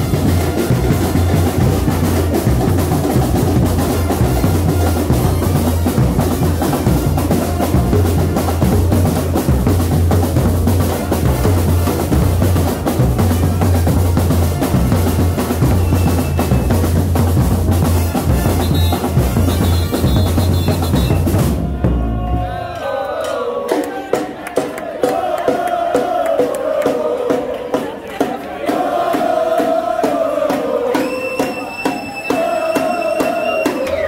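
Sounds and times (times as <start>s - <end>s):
brass and drum street band: 0.0s - 34.0s
drums: 0.0s - 34.0s.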